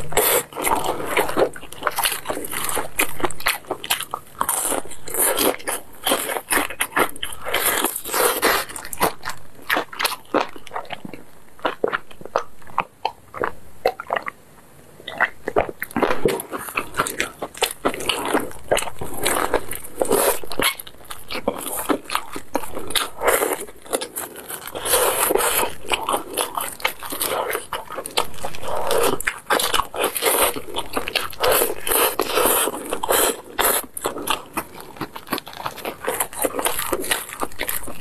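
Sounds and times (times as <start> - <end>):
crunching fried chicken: 0.0 - 14.4, 15.0 - 38.0
wet chewing: 0.0 - 14.4, 15.0 - 38.0.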